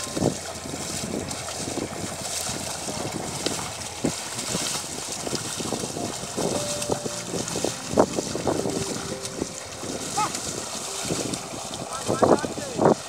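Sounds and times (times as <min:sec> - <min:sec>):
hooves thudding in mud: 0:00.0 - 0:13.0
oxen and plough splashing through mud: 0:00.0 - 0:13.0
wind buffeting microphone: 0:00.0 - 0:13.0.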